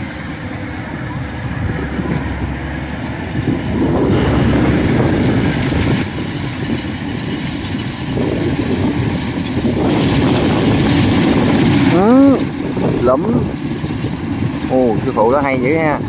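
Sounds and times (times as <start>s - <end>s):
combine harvester diesel drone: 0.0s - 16.0s.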